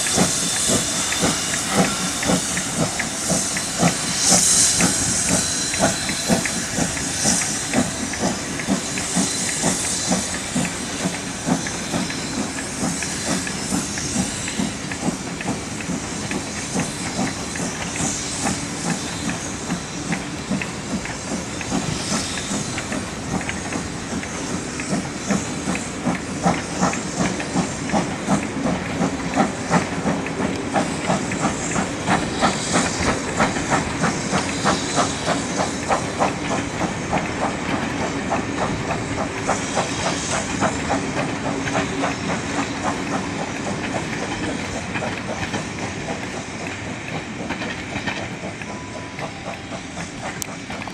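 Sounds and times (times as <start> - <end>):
steam hissing: 0.0 - 50.9
steam locomotive exhaust beats: 0.0 - 50.9.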